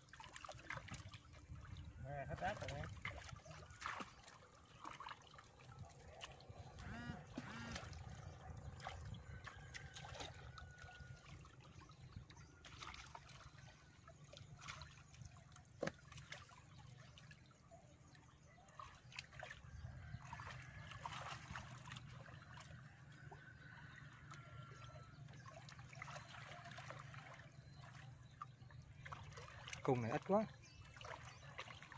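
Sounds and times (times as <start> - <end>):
muddy water splashing: 0.0 - 31.9.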